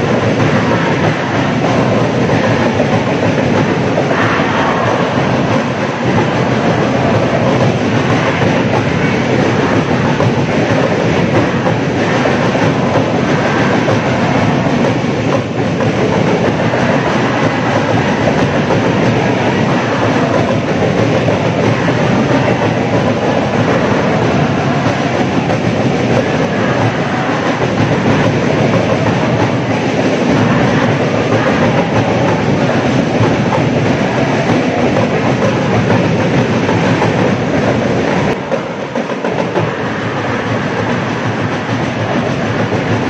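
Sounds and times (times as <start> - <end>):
crowd singing and chanting: 0.0 - 43.0.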